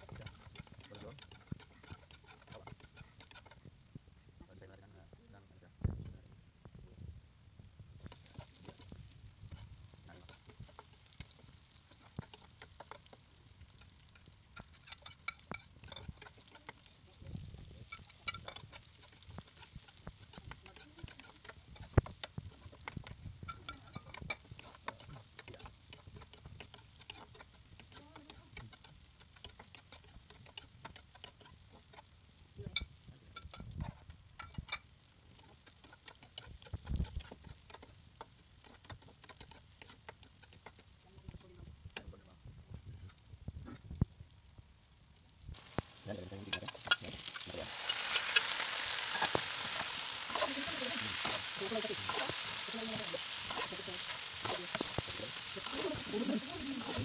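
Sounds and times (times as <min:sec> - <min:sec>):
metal spatula scraping a wok: 0:00.0 - 0:03.8, 0:08.0 - 0:41.4, 0:45.6 - 0:57.0
vegetables frying in oil: 0:00.0 - 0:57.0.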